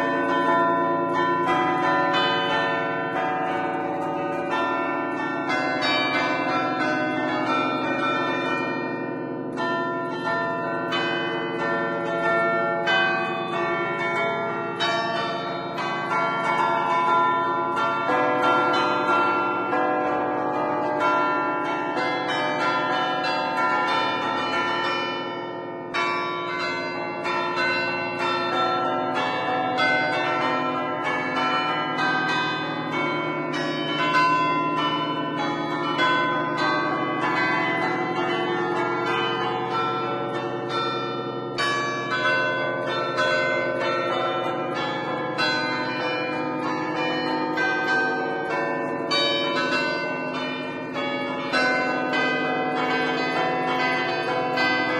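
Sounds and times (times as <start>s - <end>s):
church bells ringing fast: 0.0s - 54.9s.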